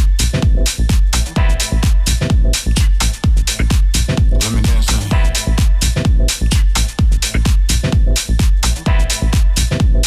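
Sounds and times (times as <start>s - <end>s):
deep kick drum: 0.0s - 10.0s
electronic dance music: 0.0s - 10.0s.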